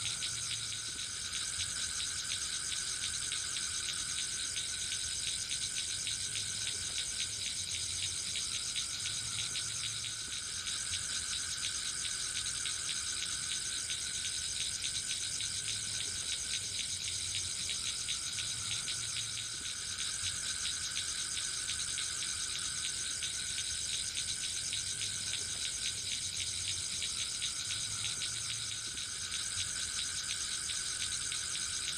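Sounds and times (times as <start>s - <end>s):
high-pitched insect buzz: 0.0s - 31.9s
insects trilling: 0.0s - 31.9s.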